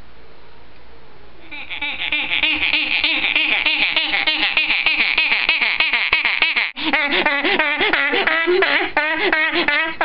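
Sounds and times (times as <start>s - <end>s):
girl imitating bird call: 1.4s - 9.8s.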